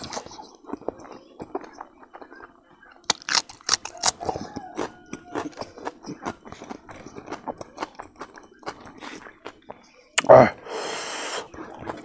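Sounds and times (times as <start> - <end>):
close chewing with mouth clicks: 0.0 - 10.3, 11.1 - 12.0.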